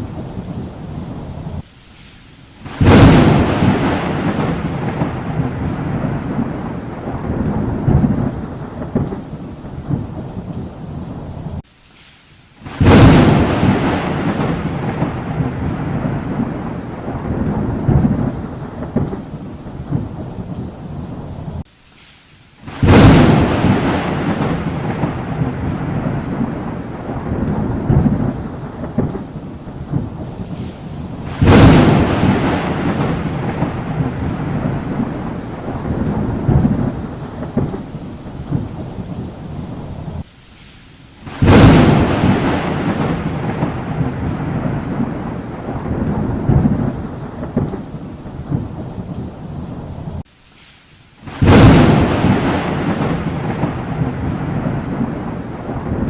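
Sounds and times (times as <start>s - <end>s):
thunderclaps with low rumble: 0.0s - 1.6s, 2.6s - 11.6s, 12.6s - 21.6s, 22.7s - 40.3s, 41.3s - 50.2s, 51.3s - 56.0s
steady rain: 0.0s - 56.0s.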